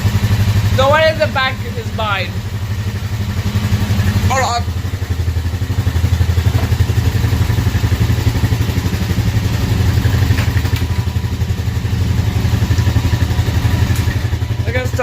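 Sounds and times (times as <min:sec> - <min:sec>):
engines idling loudly: 0:00.0 - 0:15.0.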